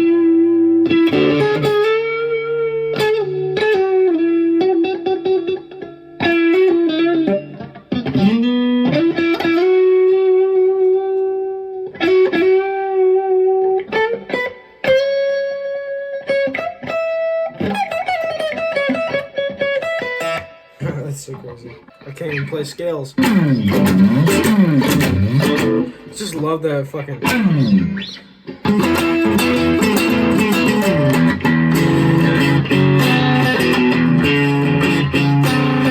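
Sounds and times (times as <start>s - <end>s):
electric guitar lead line: 0.0s - 35.9s.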